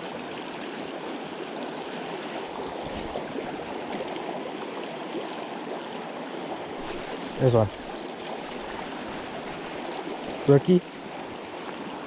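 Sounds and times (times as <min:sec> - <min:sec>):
stream babbling over rocks: 0:00.0 - 0:12.0.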